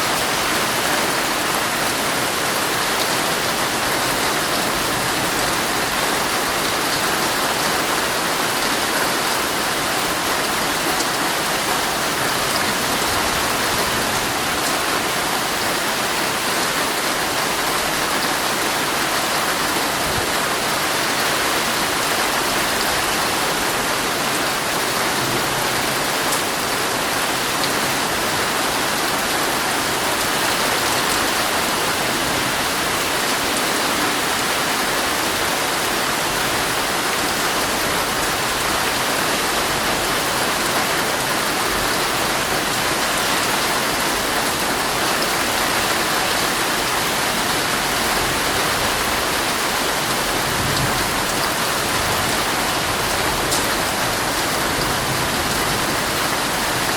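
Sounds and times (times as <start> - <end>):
heavy rain on a tent: 0.0 - 56.9.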